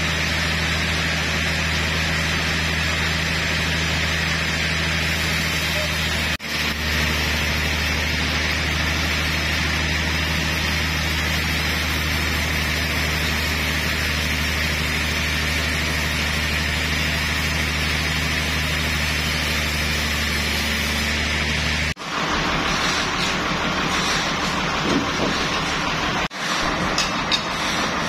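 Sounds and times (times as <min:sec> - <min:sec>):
band saw running: 0:00.0 - 0:28.0.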